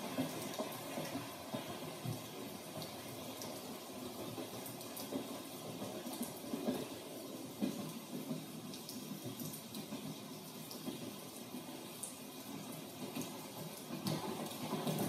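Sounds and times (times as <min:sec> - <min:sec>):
rain falling and dripping: 0:00.0 - 0:15.0.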